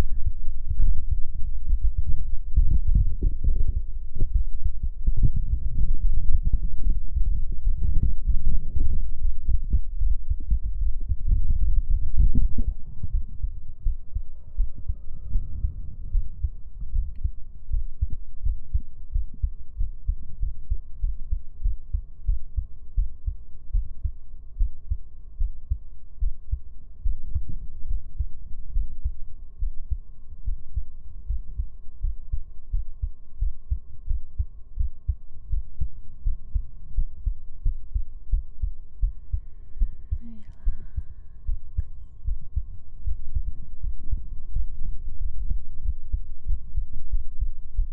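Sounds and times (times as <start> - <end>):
faint steady hum: 0.0 - 47.9
heartbeat thumps: 0.0 - 47.9.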